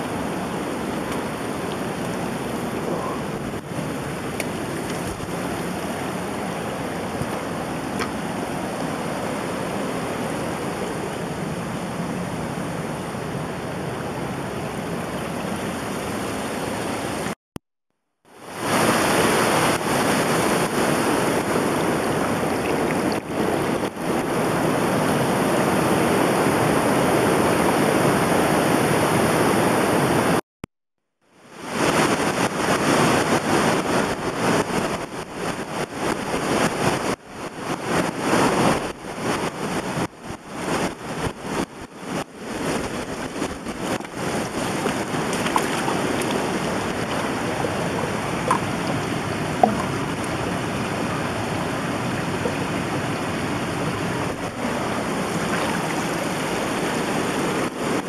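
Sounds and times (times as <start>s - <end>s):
rushing water: 0.0s - 17.4s, 18.3s - 30.4s, 31.3s - 58.0s.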